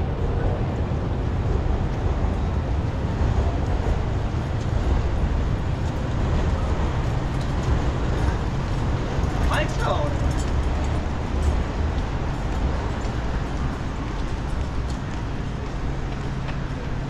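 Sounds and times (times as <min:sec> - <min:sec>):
city street traffic rumble: 0:00.0 - 0:17.0.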